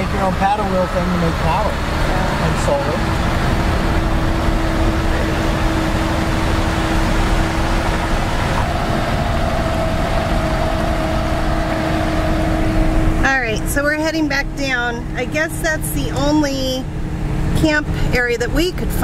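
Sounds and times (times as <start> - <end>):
diesel engine drone: 0.0 - 19.0
tyre and road noise: 0.0 - 19.0.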